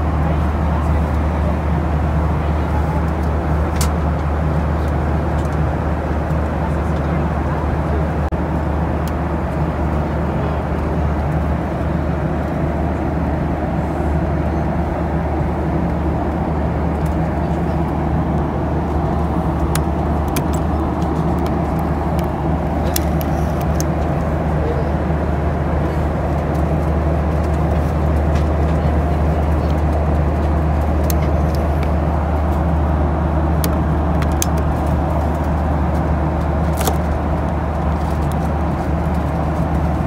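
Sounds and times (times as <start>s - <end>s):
airplane cabin drone: 0.0s - 40.0s.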